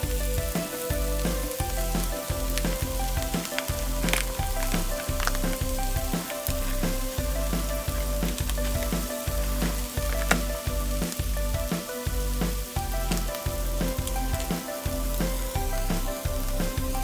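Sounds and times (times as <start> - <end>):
background music with a beat: 0.0 - 17.0.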